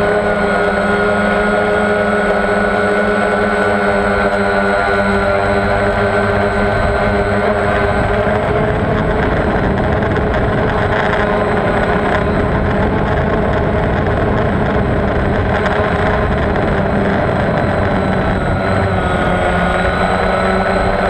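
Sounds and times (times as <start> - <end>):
model aircraft motor humming: 0.0 - 21.0.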